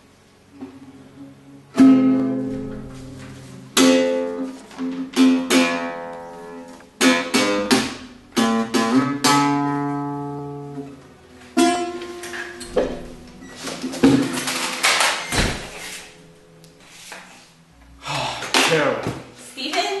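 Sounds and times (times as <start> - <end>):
classical guitar strumming: 0.5 - 16.8.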